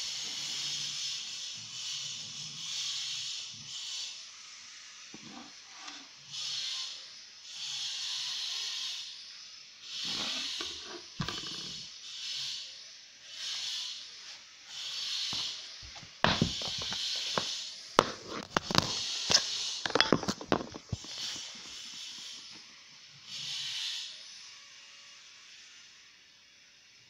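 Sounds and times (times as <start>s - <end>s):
soft hissing swells: 0.0s - 19.8s, 20.8s - 27.0s.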